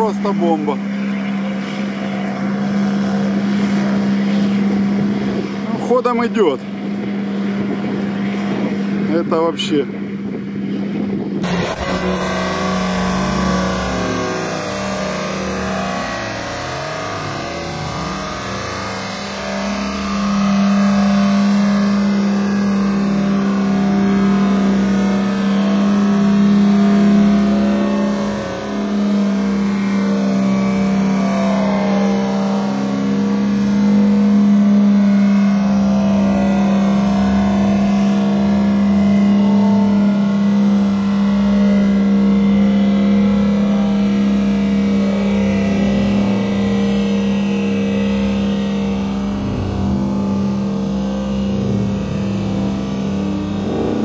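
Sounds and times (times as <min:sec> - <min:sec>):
engine revving high: 0:00.0 - 0:09.8, 0:10.7 - 0:54.0.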